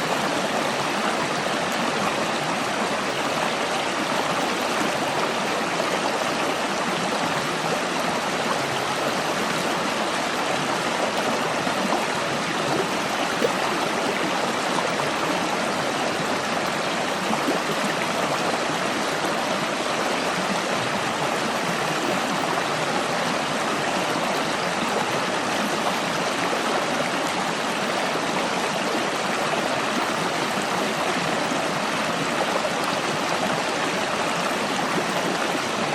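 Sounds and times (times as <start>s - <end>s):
stream water flowing: 0.0s - 35.9s.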